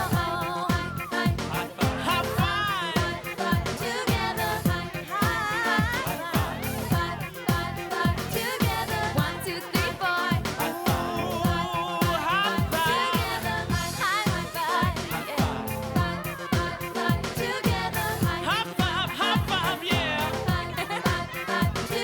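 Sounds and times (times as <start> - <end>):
upbeat disco pop music: 0.0 - 22.0.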